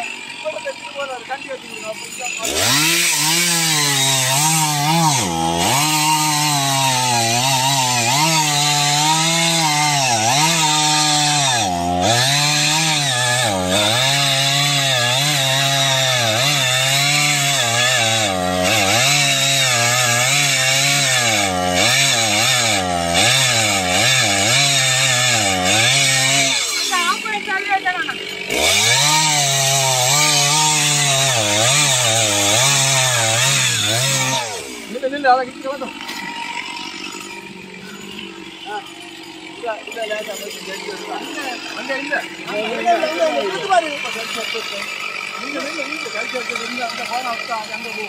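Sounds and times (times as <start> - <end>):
chainsaw cutting wood: 0.0 - 48.0.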